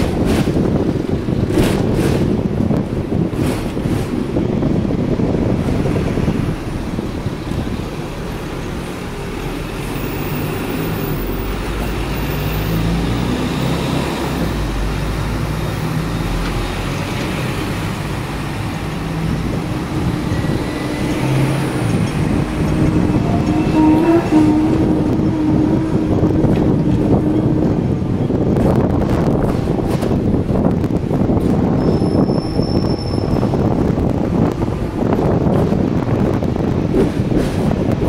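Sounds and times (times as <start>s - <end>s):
buses and traffic: 0.0s - 38.0s
tram rumbling on rails: 0.0s - 38.0s.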